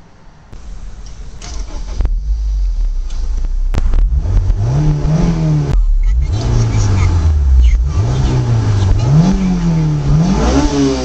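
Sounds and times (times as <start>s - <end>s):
car engine rumble and rev: 0.5s - 11.0s.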